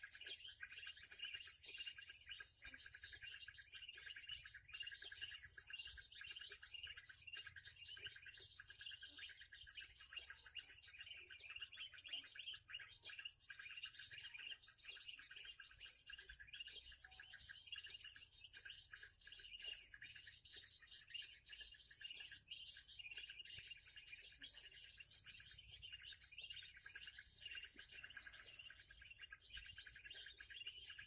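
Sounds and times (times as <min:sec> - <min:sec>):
songbird chirping: 0:00.0 - 0:31.0.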